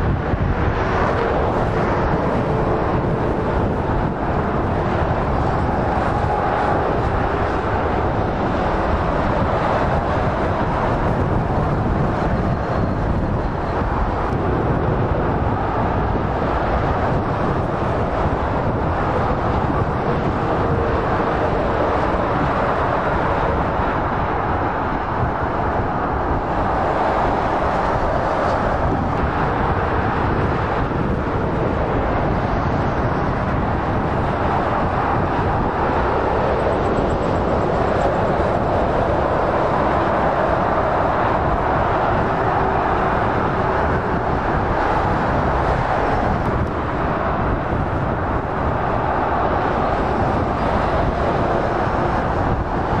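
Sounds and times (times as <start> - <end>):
heavy motorway traffic: 0.0 - 53.0.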